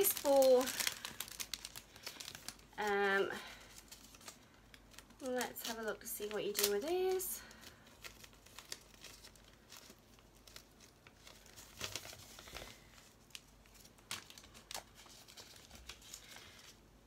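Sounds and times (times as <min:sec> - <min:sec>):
plastic packaging crinkling: 0:00.0 - 0:16.9.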